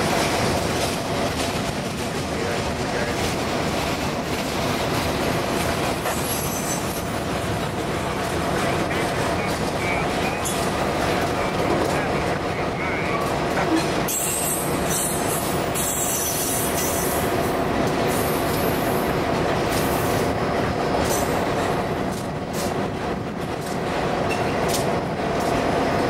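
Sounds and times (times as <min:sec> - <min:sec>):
train wheels clattering on rails: 0:00.0 - 0:26.0.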